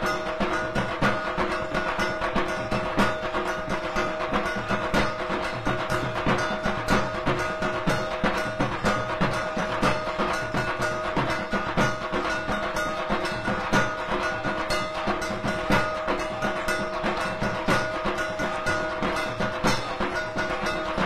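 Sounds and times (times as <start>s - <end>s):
regular percussion strokes: 0.0s - 21.0s.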